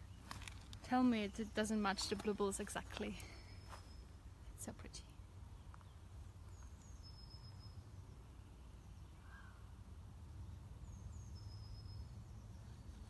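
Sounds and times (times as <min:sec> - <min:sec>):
bird singing: 0:00.0 - 0:09.8, 0:10.4 - 0:13.0.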